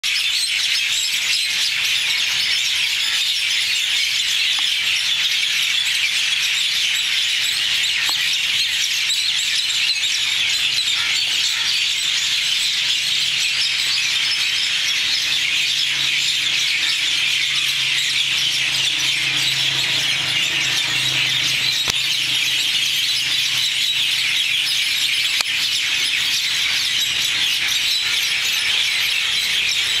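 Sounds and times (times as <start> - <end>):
flock of birds chirping: 0.0 - 30.0.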